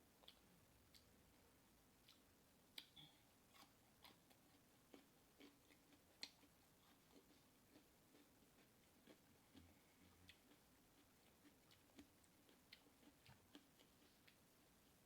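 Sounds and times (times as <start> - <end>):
person chewing and eating: 0.2 - 15.0.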